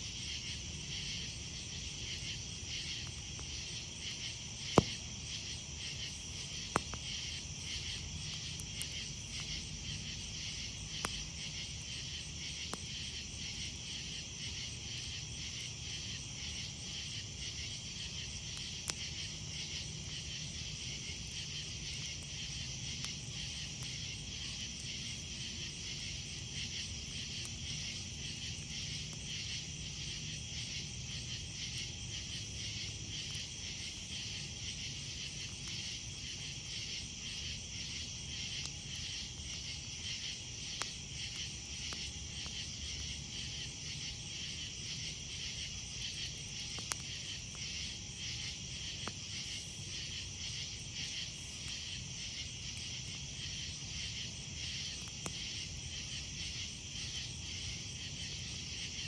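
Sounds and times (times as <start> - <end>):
crickets chirping: 0.0 - 59.0
campfire popping: 0.1 - 59.0.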